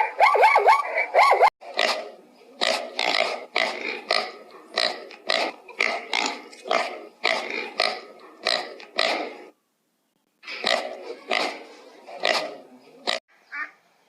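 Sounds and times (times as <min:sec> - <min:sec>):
pig grunting: 0:00.9 - 0:09.5, 0:10.4 - 0:13.2.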